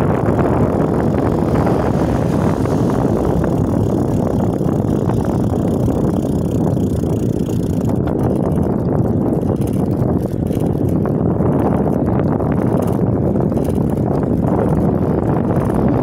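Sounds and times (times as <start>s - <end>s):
bicycle rolling noise: 0.0s - 16.0s
wind rumble on microphone: 0.0s - 16.0s.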